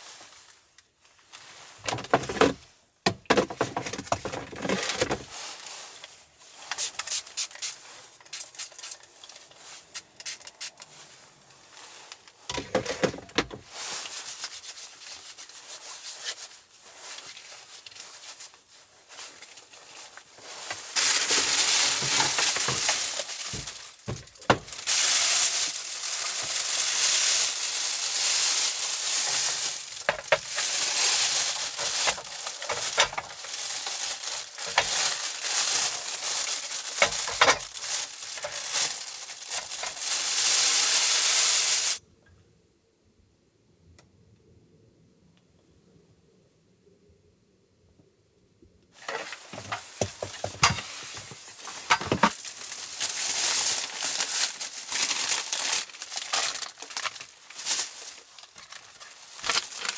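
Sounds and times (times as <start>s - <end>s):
handling rustles: 0.0s - 42.0s, 49.0s - 59.9s
plastic bag crinkling: 1.4s - 42.0s, 49.0s - 59.9s.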